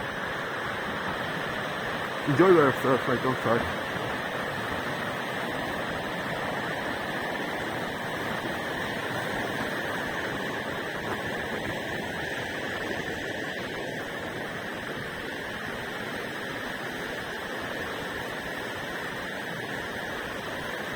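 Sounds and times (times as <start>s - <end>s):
river rushing: 0.0s - 20.9s.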